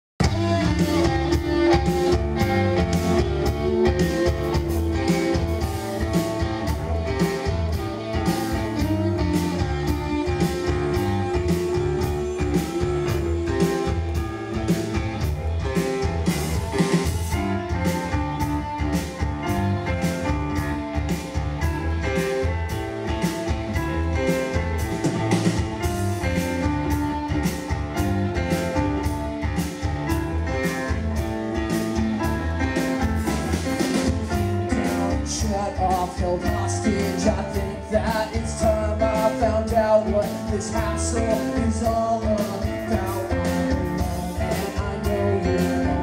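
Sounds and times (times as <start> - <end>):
drum kit: 0.2 - 46.0
electric guitar: 0.2 - 46.0
keyboard: 0.2 - 46.0.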